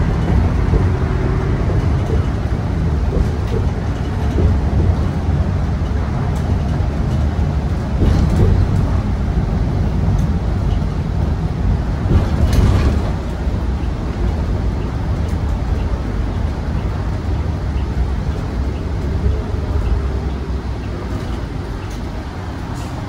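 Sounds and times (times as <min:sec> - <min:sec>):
bus engine rumble: 0:00.0 - 0:23.0
road noise: 0:00.0 - 0:23.0.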